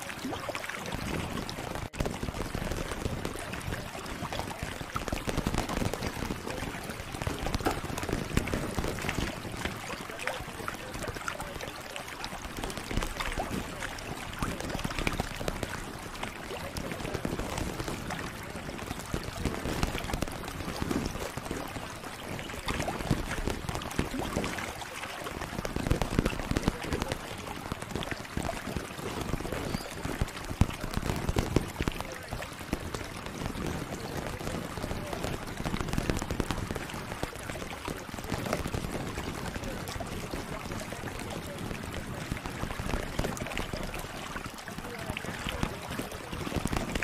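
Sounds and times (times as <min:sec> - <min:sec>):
crackle of small clicks and taps: 0:00.0 - 0:47.0.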